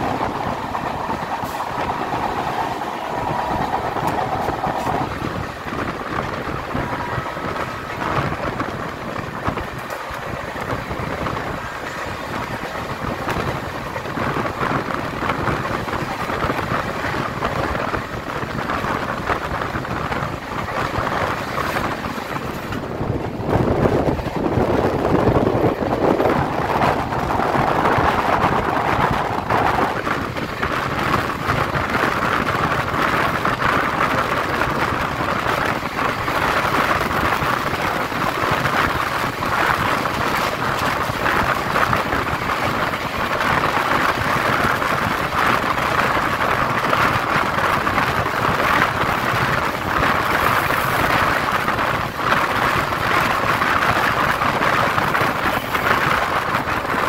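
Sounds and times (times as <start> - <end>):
train running noise from on board: 0.0 - 57.0.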